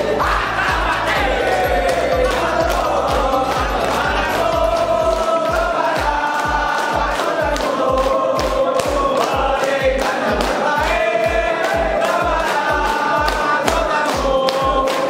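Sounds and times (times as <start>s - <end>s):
men singing in chorus: 0.0s - 15.0s
steady drum beat: 0.0s - 15.0s
hand claps: 0.3s - 15.0s.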